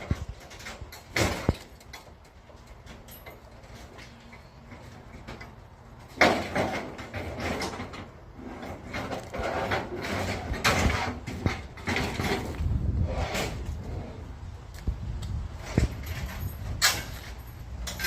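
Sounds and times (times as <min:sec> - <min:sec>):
scrap scraping and rattling: 0:00.0 - 0:14.4, 0:15.6 - 0:18.0.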